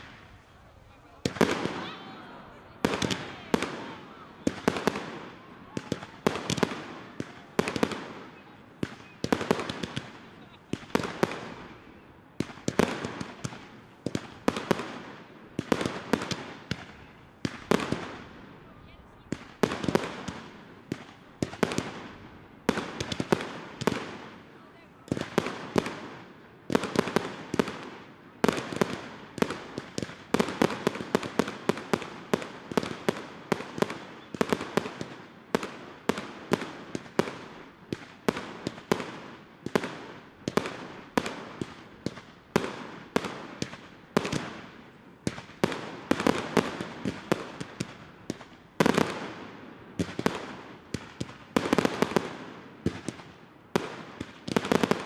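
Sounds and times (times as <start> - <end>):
fireworks bangs: 0.0 - 55.0.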